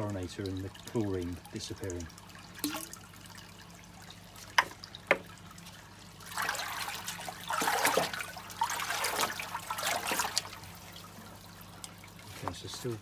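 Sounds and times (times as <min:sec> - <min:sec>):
water sloshing in tank: 0:00.0 - 0:13.0.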